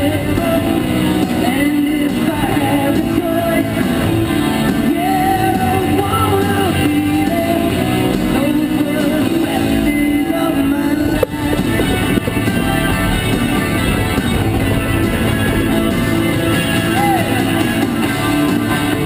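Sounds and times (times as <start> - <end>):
rock song on radio: 0.0 - 19.0.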